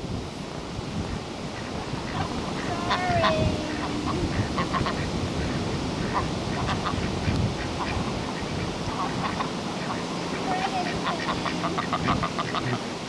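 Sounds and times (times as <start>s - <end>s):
surf: 0.0s - 13.0s
wind: 0.0s - 13.0s
ducks quacking: 1.6s - 13.0s.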